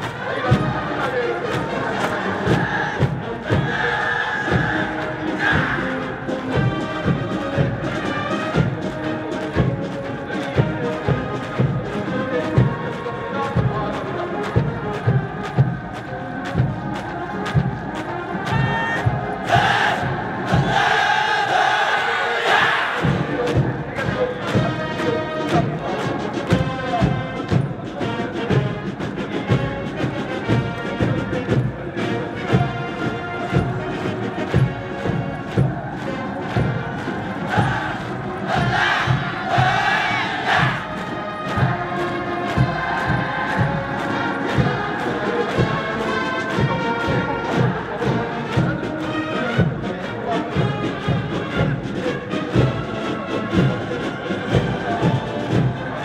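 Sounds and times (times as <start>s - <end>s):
brass band playing a march: 0.0s - 56.0s
steady drum beat: 0.0s - 56.0s.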